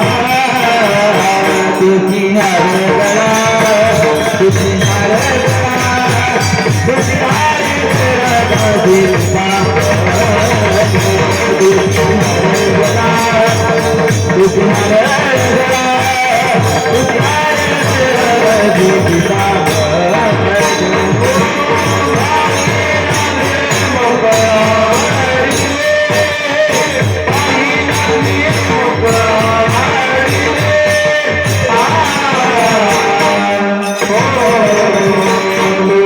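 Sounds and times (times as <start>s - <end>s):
drum beat: 0.0s - 36.0s
hand cymbals jingling: 0.0s - 36.0s.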